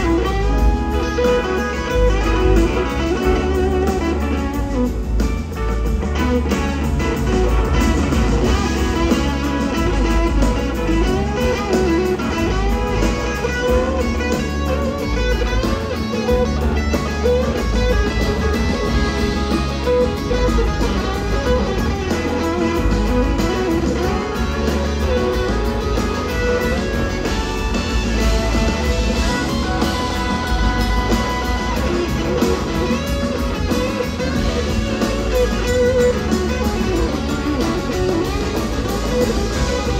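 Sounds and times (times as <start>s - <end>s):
bending lead guitar line: 0.0s - 39.9s
live band music: 0.0s - 39.9s.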